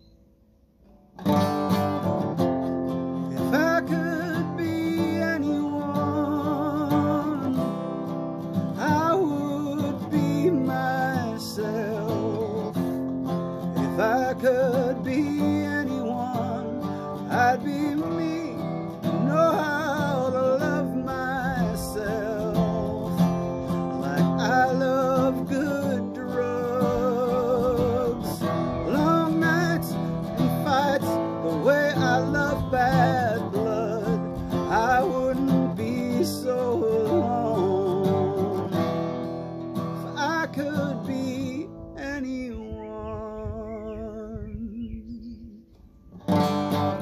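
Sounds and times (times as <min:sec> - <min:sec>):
acoustic guitar strumming chords: 0:00.0 - 0:42.2, 0:46.1 - 0:47.0
man singing with vibrato: 0:02.6 - 0:45.8.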